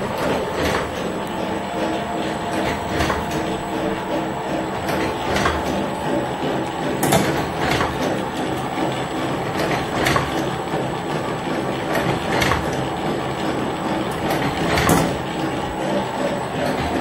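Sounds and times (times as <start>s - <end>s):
machine whirring: 0.0s - 17.0s.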